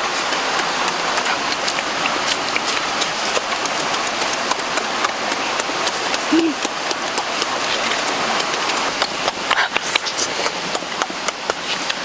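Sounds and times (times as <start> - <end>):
wet chewing and lip-smacking: 0.3 - 11.4.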